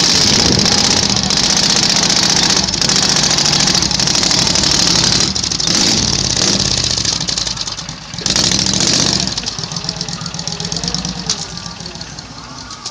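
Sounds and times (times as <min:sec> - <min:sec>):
garden tractor engine running: 0:00.0 - 0:12.9.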